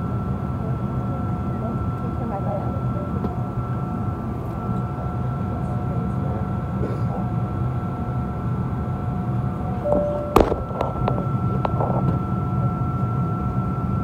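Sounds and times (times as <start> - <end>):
airliner cabin rumble: 0.2 - 13.9.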